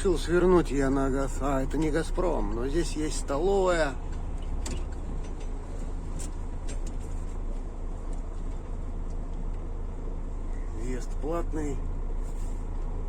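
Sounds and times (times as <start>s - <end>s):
road and cab noise: 0.0s - 13.0s
truck diesel engine running: 0.0s - 13.0s.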